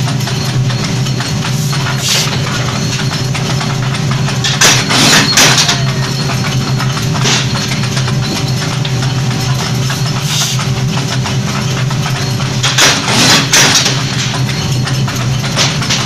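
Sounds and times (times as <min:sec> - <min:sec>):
power press humming: 0:00.0 - 0:16.0.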